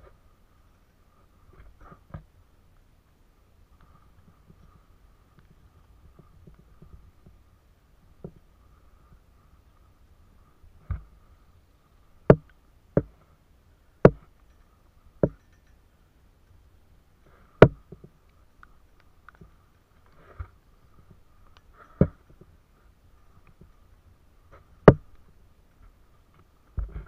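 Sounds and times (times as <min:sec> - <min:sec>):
faint high hum: 0:00.0 - 0:27.0.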